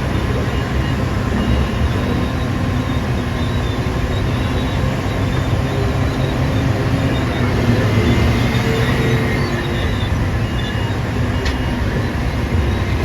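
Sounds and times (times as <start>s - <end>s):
excavator engine rumbling: 0.0s - 13.0s
faint whining tones: 0.0s - 13.0s.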